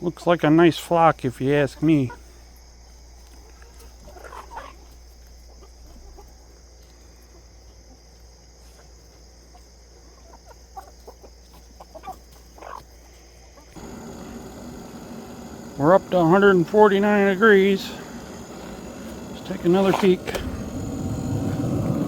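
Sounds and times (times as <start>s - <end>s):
insects chirring: 0.0s - 22.0s
hens clucking: 1.4s - 2.3s, 3.0s - 22.0s.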